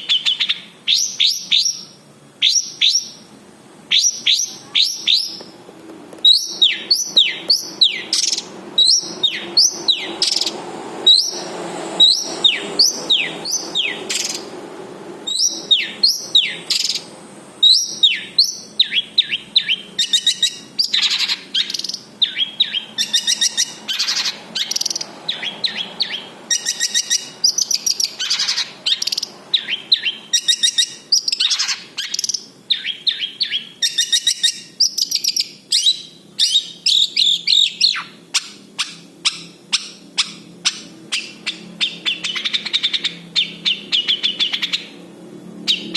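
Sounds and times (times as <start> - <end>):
bird singing varied song: 0.0 - 3.3, 3.9 - 5.6, 6.2 - 45.9.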